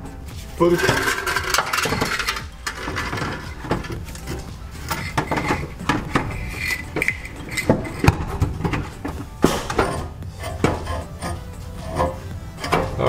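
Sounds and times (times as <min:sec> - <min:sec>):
steady low hum: 0:00.0 - 0:13.0
metal exhaust parts clinking: 0:00.6 - 0:13.0.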